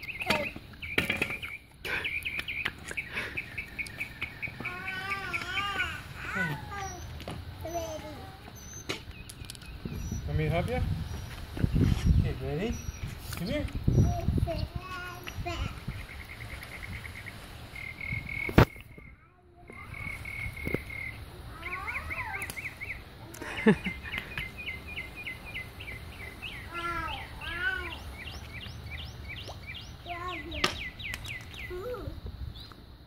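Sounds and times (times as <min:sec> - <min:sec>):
birds chirping and trilling: 0:00.0 - 0:33.0.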